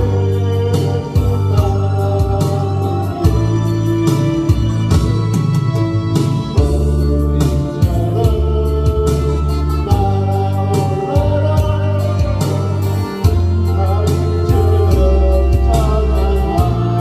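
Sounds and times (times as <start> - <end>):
gospel song with organ and bass: 0.0 - 17.0.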